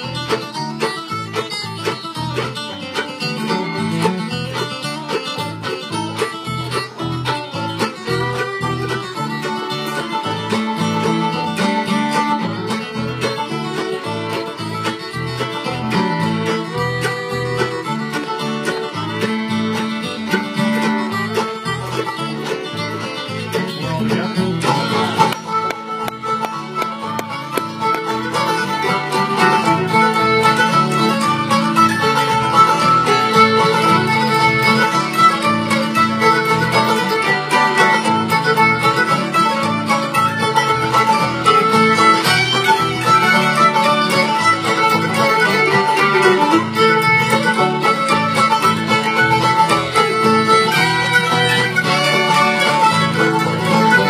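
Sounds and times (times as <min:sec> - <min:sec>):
bluegrass band playing: 0:00.0 - 0:54.0.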